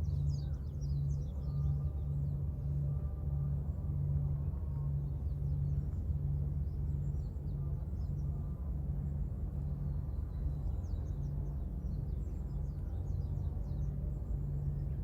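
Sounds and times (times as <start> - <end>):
pulsing low hum: 0.0 - 15.0
steady low rumble: 0.0 - 15.0.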